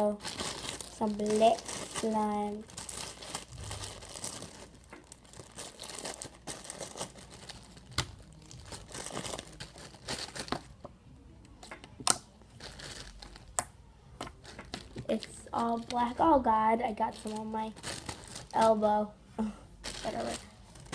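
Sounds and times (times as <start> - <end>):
slime crackling in plastic bag: 0.0 - 10.8, 12.5 - 13.6, 14.3 - 19.0, 19.8 - 20.9.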